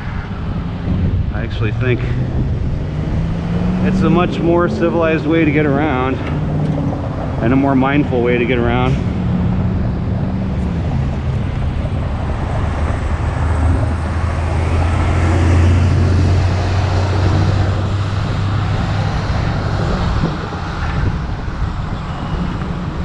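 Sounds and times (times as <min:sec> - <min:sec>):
car engine humming: 0:00.0 - 0:23.0
wind and road noise: 0:00.0 - 0:23.0.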